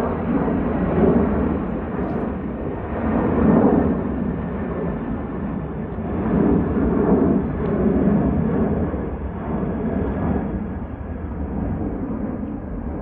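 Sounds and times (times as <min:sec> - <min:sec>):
airplane passing over: 0:00.0 - 0:13.0.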